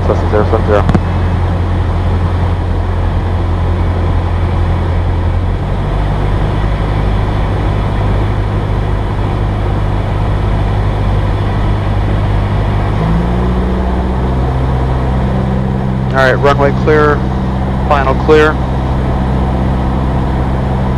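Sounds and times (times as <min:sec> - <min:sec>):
propeller plane engine droning: 0:00.0 - 0:20.9.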